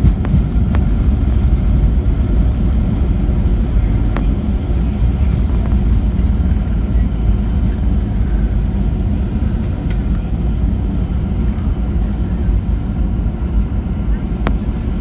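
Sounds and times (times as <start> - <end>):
airplane cabin rumble: 0.0 - 15.0
jet engines at taxi idle: 0.0 - 15.0
wheels rolling on taxiway: 0.0 - 15.0.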